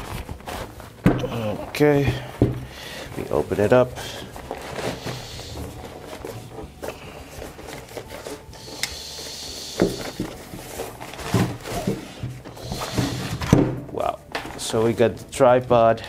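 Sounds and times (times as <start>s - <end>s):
fabric bag rustling and sliding: 0.0s - 13.6s.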